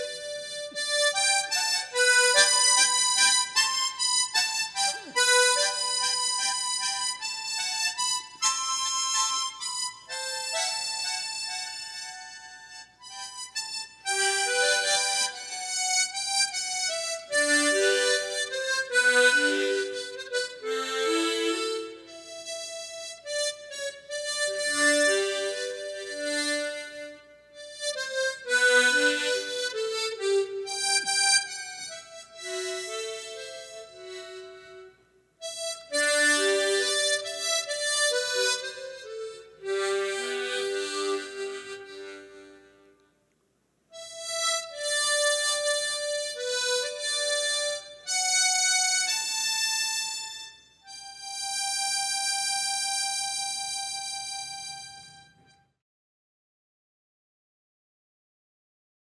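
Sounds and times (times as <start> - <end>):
harmonica slow melody: 0.0 - 55.8.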